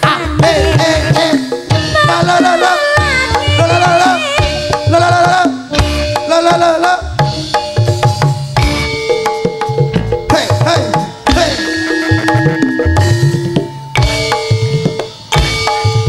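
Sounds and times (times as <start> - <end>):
hand drums beating: 0.0 - 16.0
wavering melody with vibrato: 0.0 - 16.0.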